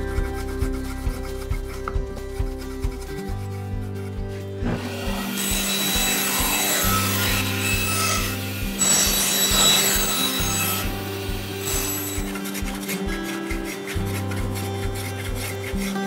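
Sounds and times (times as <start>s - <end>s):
band saw cutting wood: 0.0s - 16.0s.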